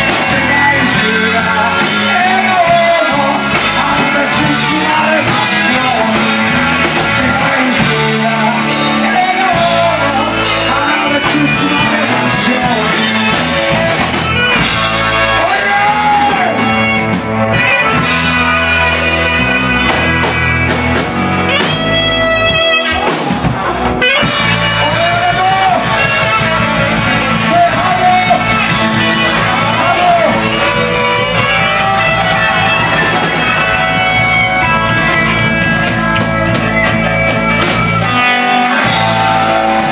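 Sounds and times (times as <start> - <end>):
electric guitar: 0.0 - 39.9
rock band playing: 0.0 - 39.9.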